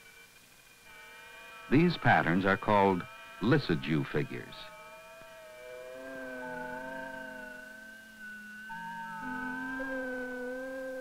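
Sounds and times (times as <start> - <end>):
steady electronic tones: 1.5 - 11.0.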